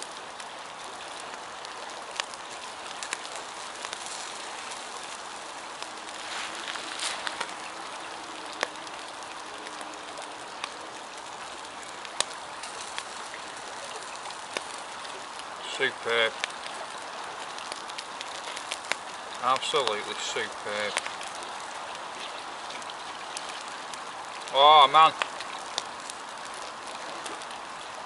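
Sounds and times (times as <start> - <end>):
embers hissing and crackling: 0.0 - 28.0.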